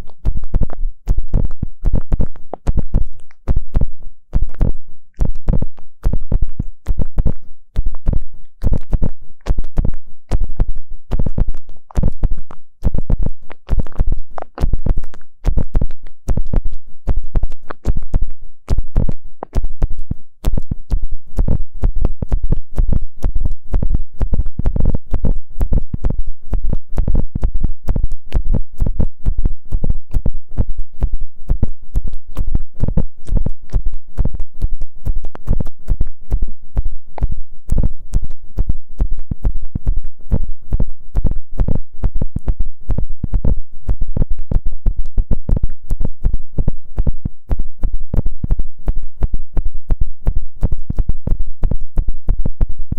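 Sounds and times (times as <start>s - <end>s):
ear pick scratching microphone: 0.0s - 52.9s.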